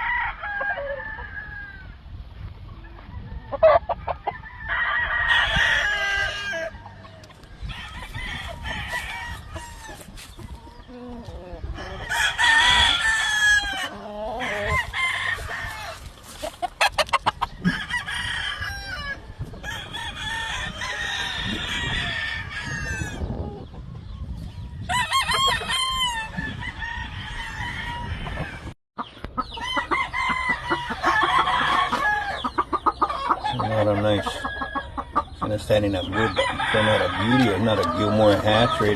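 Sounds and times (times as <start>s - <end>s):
roosters crowing: 0.0s - 2.1s, 2.7s - 23.8s, 24.6s - 28.8s, 29.4s - 38.9s
chickens clucking: 2.3s - 38.9s.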